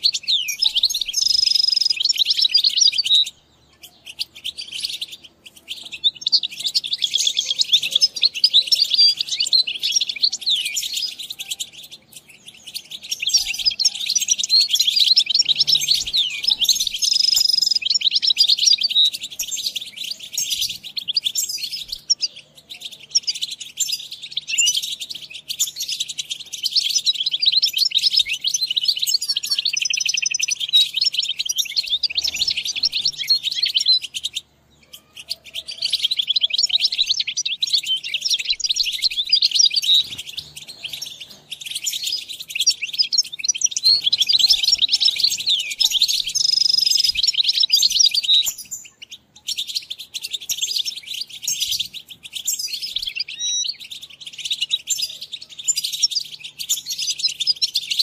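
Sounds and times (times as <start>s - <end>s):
finch twittering song: 0.0s - 58.0s.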